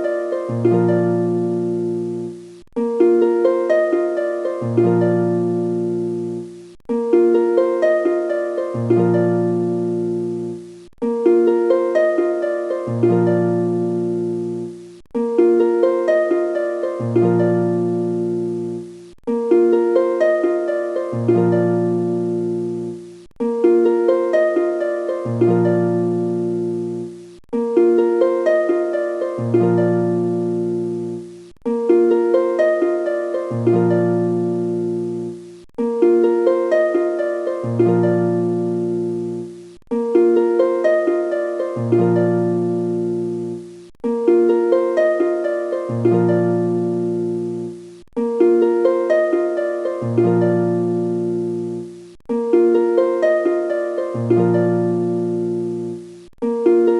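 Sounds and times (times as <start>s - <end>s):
gentle plucked-string melody: 0.0s - 56.9s.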